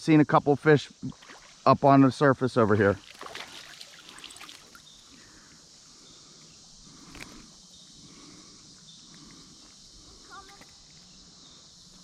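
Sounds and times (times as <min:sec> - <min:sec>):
faint steady high hiss: 0:00.0 - 0:12.0.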